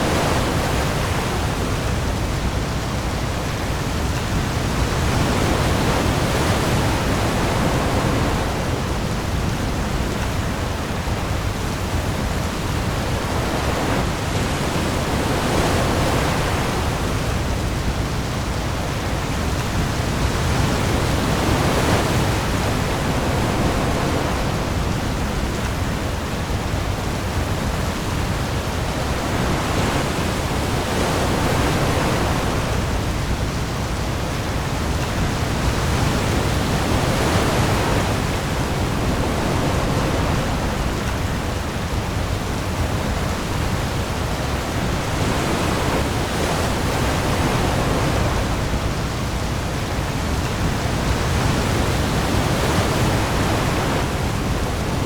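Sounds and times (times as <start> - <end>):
heavy rain on the sea: 0.0 - 55.0
sea waves: 0.0 - 55.0.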